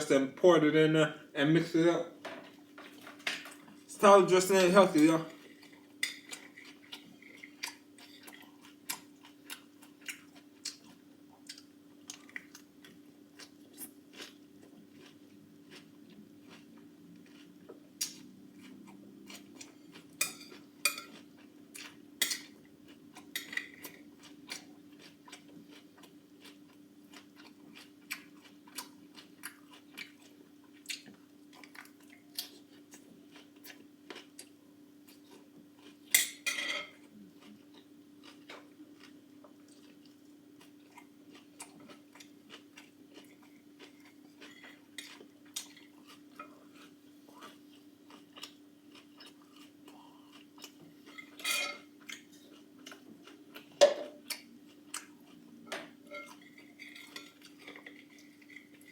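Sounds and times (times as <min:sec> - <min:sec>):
faint low hum: 0:00.0 - 0:58.9
chewing and crunching: 0:05.0 - 0:58.9.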